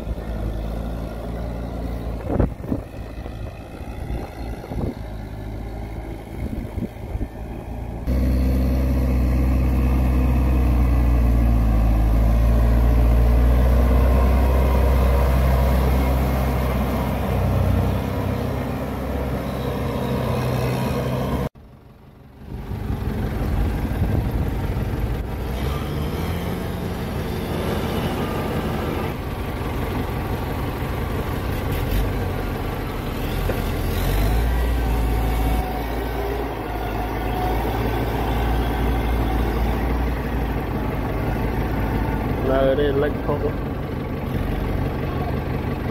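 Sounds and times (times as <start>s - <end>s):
tractor diesel engine droning: 0.0s - 45.9s.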